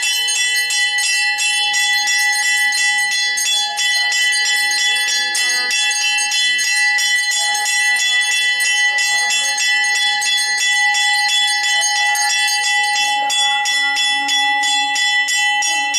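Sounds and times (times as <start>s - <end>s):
temple bells ringing fast: 0.0s - 15.9s.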